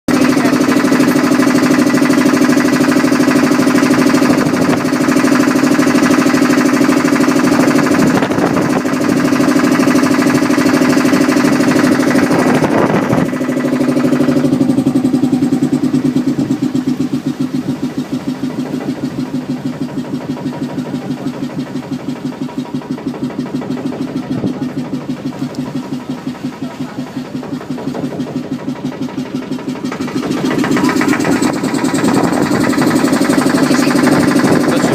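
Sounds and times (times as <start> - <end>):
motorboat engine chugging: 0.1 - 34.9.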